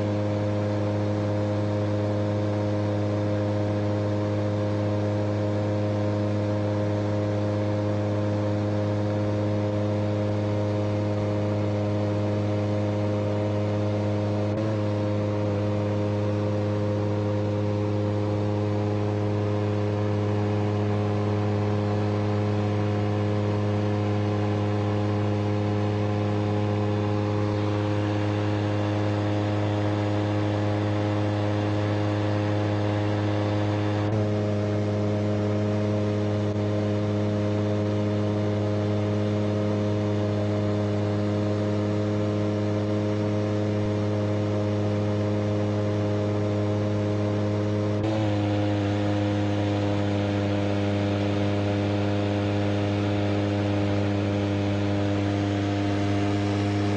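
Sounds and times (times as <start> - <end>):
two-stroke engine droning: 0.0 - 56.9.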